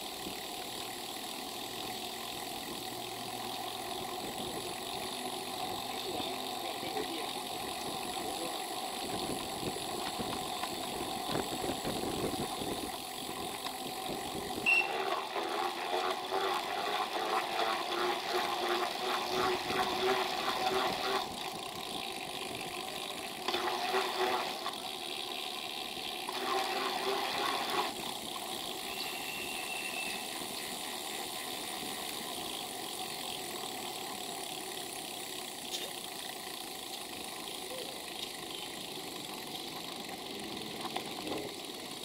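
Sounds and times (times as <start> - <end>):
bicycle ticking rattle: 0.0 - 42.0
wind and road noise: 0.0 - 42.0.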